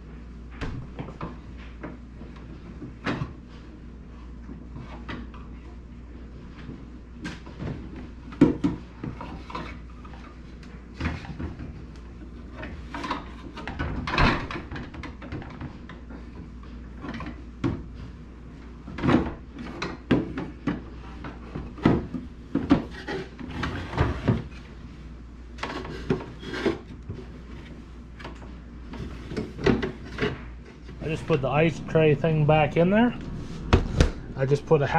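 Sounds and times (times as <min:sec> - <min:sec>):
low steady hum: 0:00.0 - 0:34.9.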